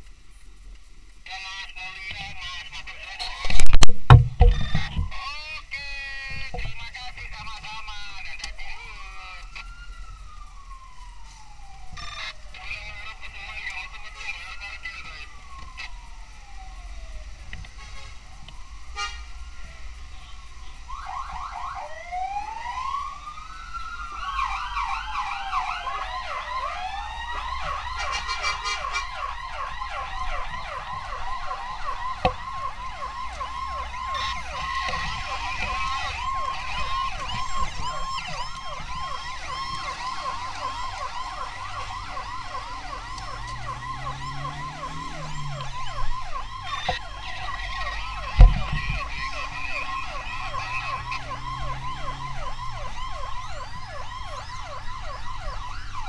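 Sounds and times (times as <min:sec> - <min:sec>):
steady siren tone: 0:00.4 - 0:56.0
sirens wailing: 0:01.2 - 0:56.0
sirens yelping: 0:04.4 - 0:56.0.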